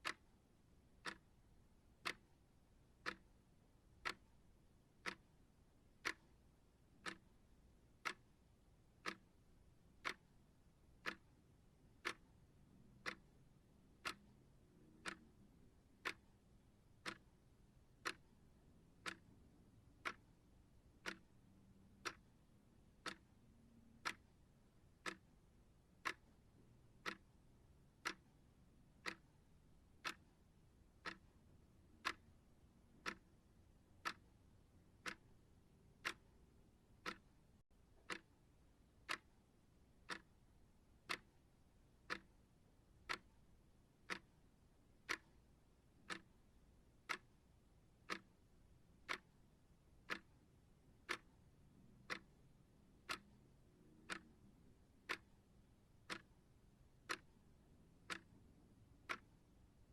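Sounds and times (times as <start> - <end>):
timer ticking: 0.0 - 59.9.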